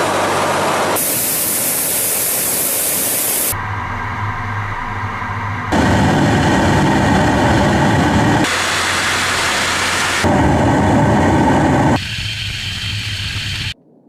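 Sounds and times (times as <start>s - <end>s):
aircraft engine with deep rumble: 0.0s - 13.8s.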